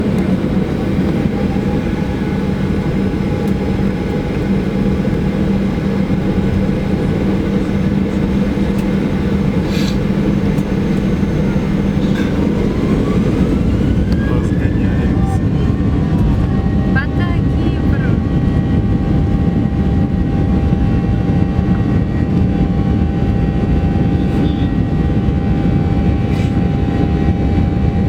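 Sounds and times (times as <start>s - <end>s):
jet engine cabin rumble: 0.0s - 28.0s
rising whine: 0.0s - 28.0s.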